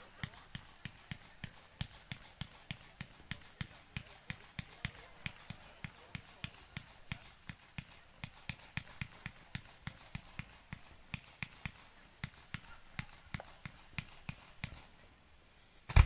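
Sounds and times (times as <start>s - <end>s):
fireworks popping: 0.0s - 15.0s.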